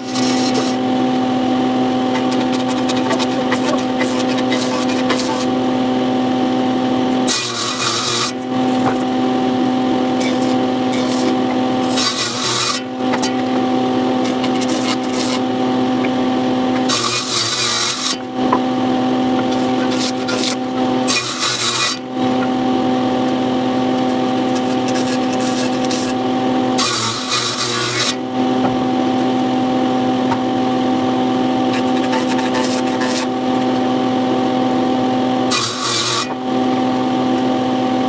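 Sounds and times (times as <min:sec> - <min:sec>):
electric tool rasping into wood: 0:00.0 - 0:38.0.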